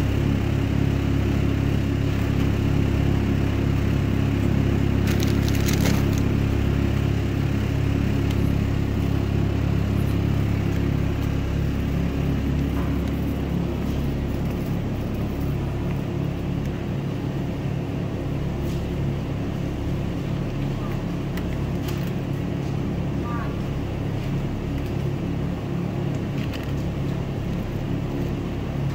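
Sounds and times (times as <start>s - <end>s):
shopping cart wheels rumbling: 0.0s - 28.9s.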